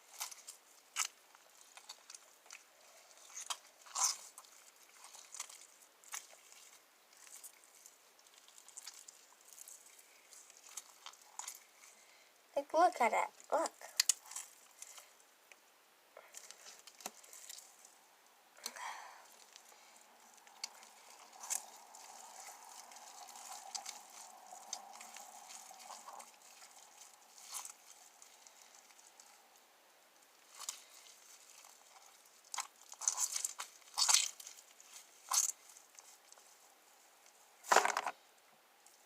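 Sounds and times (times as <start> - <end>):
slime squishing and tearing: 0.0 - 12.0, 13.3 - 15.1, 16.3 - 18.0, 18.6 - 29.4, 30.3 - 36.5.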